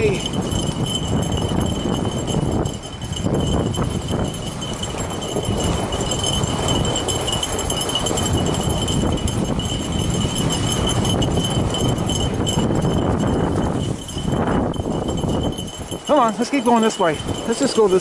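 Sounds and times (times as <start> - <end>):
snow bike rumbling and rattling: 0.0 - 18.0
steady high-pitched ring: 0.0 - 18.0.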